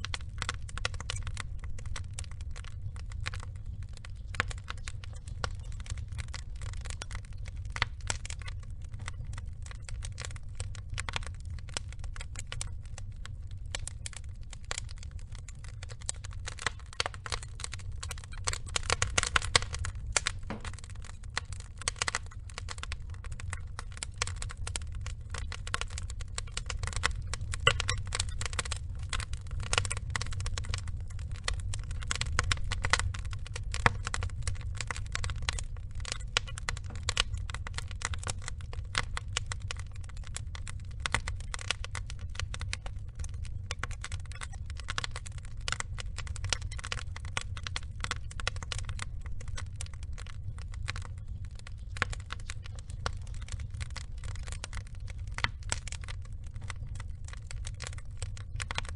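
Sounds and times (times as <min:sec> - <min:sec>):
fire pops: 0:00.0 - 0:58.9
log fire crackling: 0:00.0 - 0:58.9
low steady rumble: 0:00.0 - 0:58.9.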